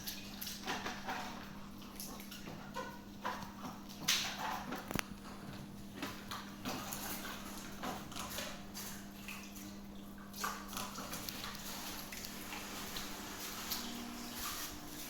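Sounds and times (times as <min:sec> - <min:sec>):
pool filter pump humming: 0:00.0 - 0:15.0.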